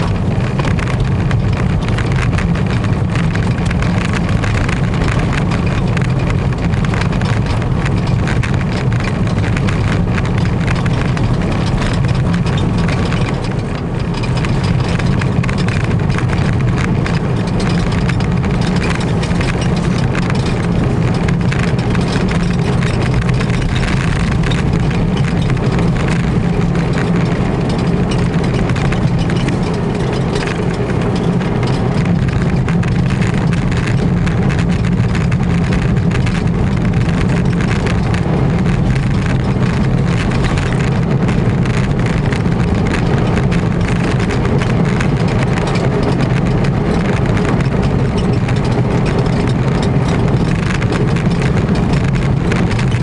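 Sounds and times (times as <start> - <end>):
car engine running inside cabin: 0.0 - 53.0.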